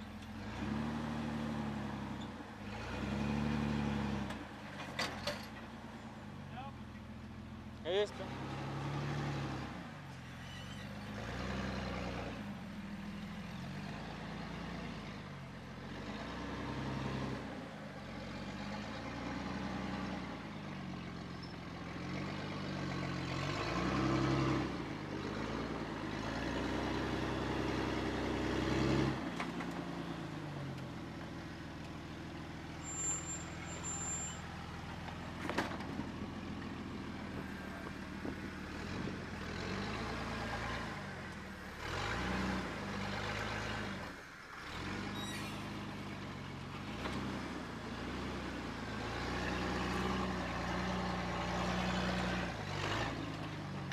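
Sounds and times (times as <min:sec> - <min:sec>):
engine revving: 0:00.0 - 0:04.6, 0:08.0 - 0:09.9, 0:11.0 - 0:21.0, 0:21.8 - 0:30.4, 0:34.5 - 0:46.1, 0:46.7 - 0:53.9.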